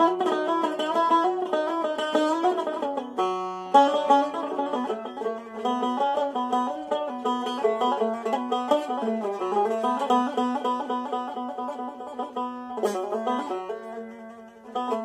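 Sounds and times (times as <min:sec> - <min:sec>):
plucked string instrument improvising: 0:00.0 - 0:15.0.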